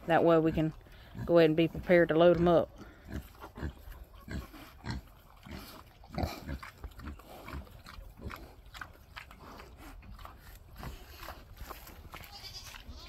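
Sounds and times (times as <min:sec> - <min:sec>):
pigs grunting: 0:00.2 - 0:13.0.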